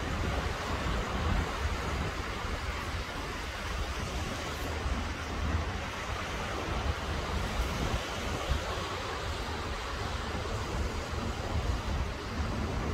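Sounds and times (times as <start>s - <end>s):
small waves washing onto sand: 0.0s - 12.9s
wind buffeting microphone: 0.0s - 12.9s.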